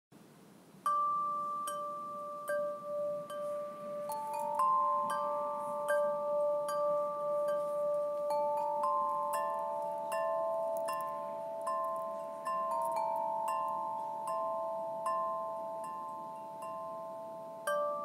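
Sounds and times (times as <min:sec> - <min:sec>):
bell-like plucked notes: 0:00.9 - 0:18.0.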